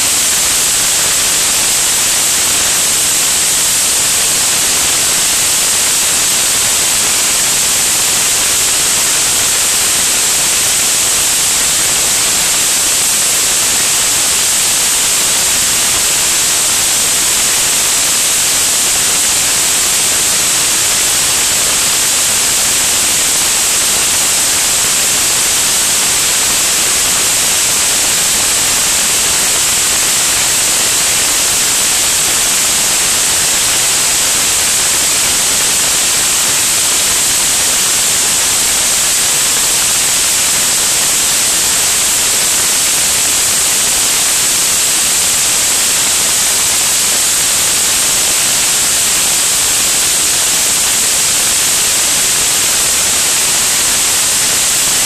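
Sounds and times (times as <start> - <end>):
loud static-like hiss: 0.0 - 55.0.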